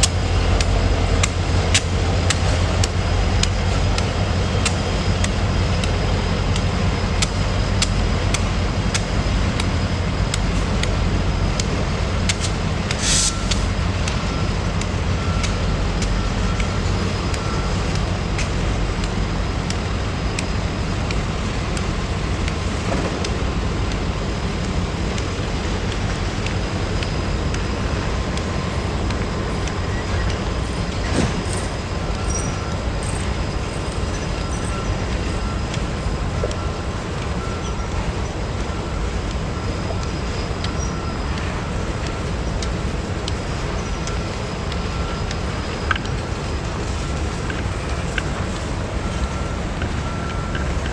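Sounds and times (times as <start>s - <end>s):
freight train rumbling: 0.0s - 50.9s
train wheels clicking: 0.0s - 50.9s.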